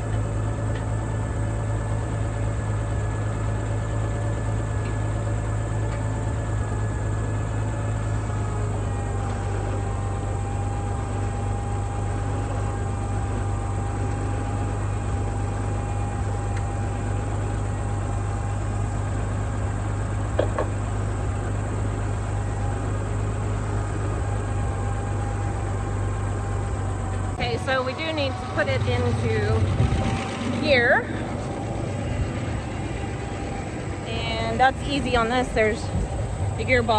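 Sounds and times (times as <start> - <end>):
faint steady whine: 0.0 - 36.9
tractor engine idling: 0.0 - 36.9.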